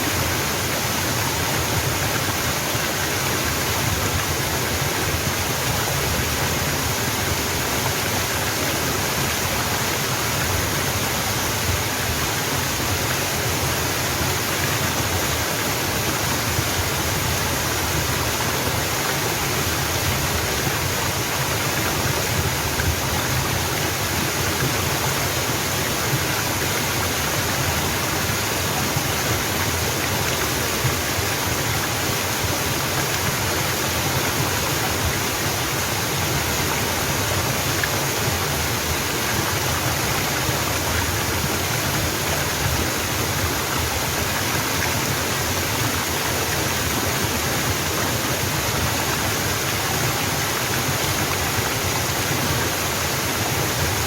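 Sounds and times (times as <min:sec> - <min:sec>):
waterfall rushing and splashing: 0:00.0 - 0:54.0.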